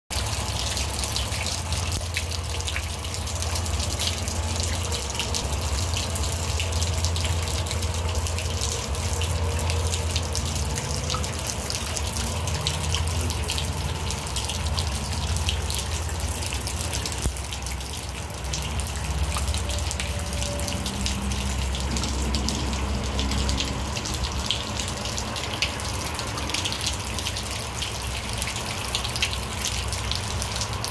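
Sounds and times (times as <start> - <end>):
steady rain falling: 0.2 - 30.9.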